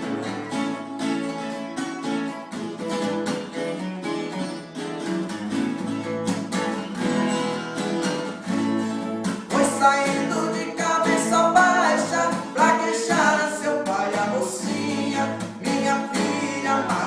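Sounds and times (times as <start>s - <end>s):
guitar plucked and strummed: 0.0s - 17.0s.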